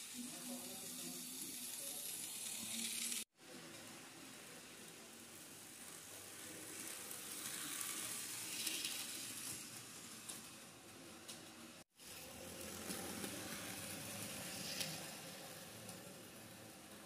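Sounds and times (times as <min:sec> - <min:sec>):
model train running on rails: 0:00.0 - 0:17.0.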